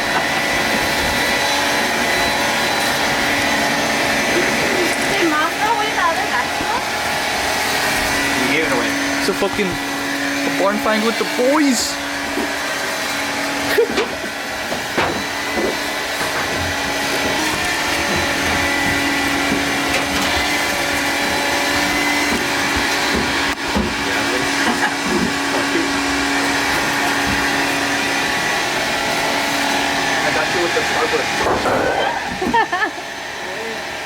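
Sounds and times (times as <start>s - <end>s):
vacuum cleaner running: 0.0s - 33.1s.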